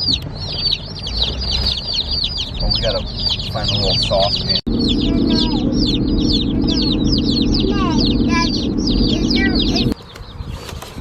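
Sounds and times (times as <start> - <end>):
chicks cheeping: 0.0 - 10.8
steady low rumble: 0.1 - 10.0.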